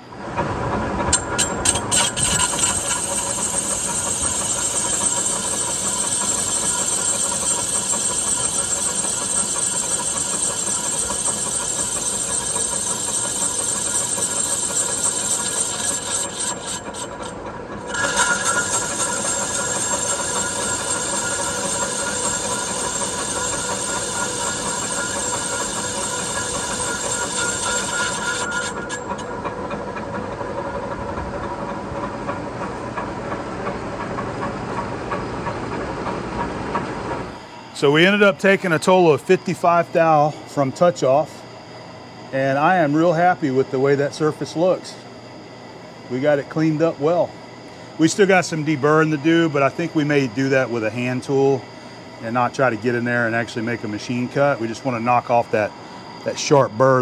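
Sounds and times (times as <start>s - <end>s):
lathe machine hum: 0.0s - 57.0s.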